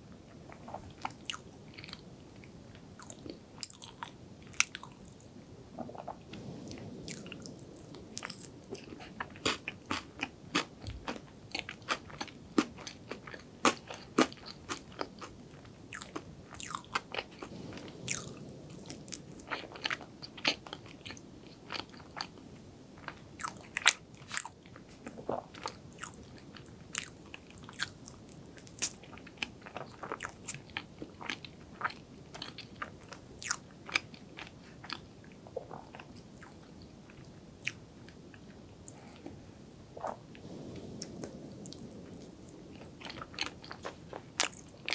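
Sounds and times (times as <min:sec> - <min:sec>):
chewing soft cake: 0:00.1 - 0:39.4, 0:40.0 - 0:44.9.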